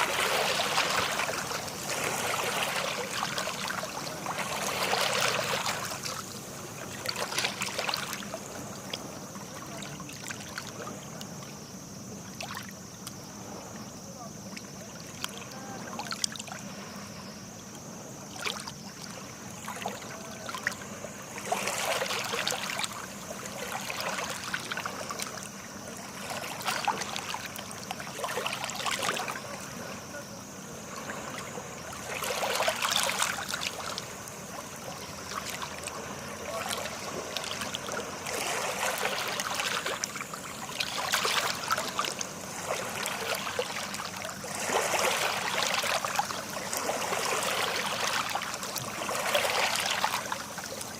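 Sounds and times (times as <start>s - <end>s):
small sea waves splashing: 0.0s - 50.9s.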